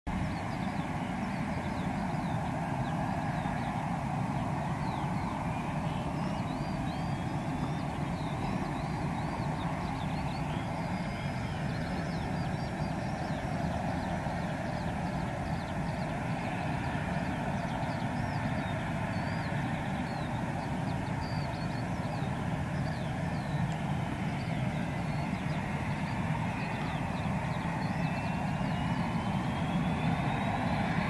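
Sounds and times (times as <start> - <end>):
engine whine rising in pitch: 0.1 - 31.0
jet engine starting up: 0.1 - 31.0.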